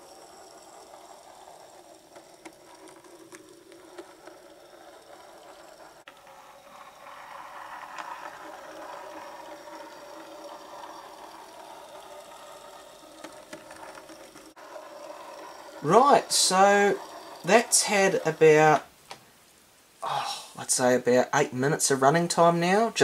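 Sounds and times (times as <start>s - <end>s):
model train motor whirring: 0.0s - 18.8s.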